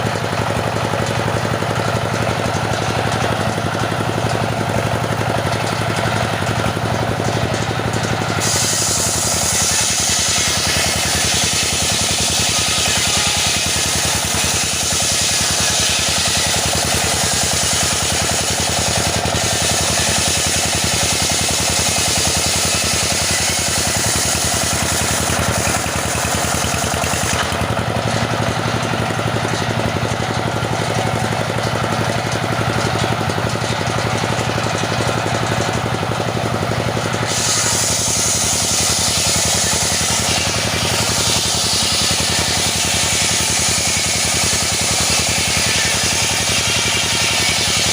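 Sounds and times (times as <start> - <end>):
petrol saw cutting wood: 0.0 - 47.9.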